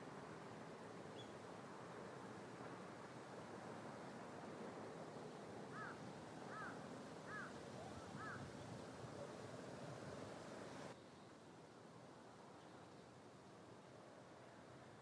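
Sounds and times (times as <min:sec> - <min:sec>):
low hiss and rumble: 0:00.0 - 0:15.0.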